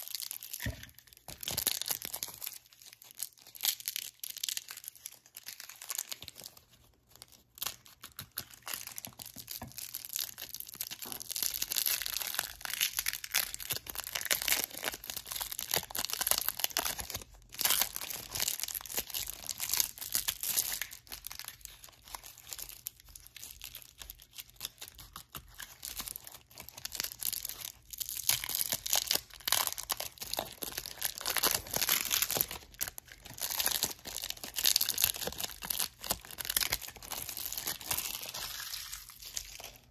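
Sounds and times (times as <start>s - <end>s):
cellophane wrappers crinkling: 0.0s - 39.9s.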